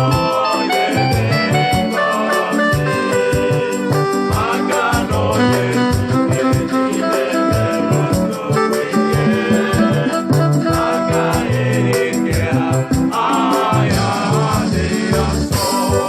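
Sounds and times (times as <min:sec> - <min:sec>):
person singing: 0:00.0 - 0:16.0
shaker percussion: 0:00.0 - 0:16.0
upbeat music with steady beat: 0:00.0 - 0:16.0.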